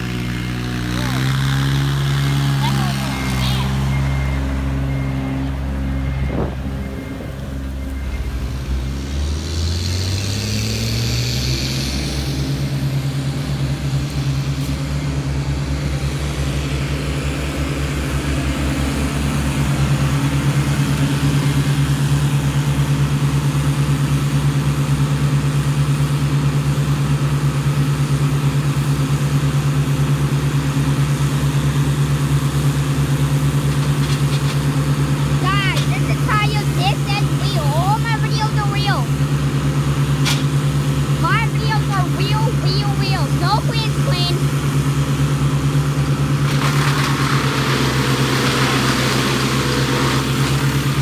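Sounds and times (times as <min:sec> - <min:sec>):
truck engine revving: 0:00.0 - 0:22.6, 0:31.1 - 0:51.0.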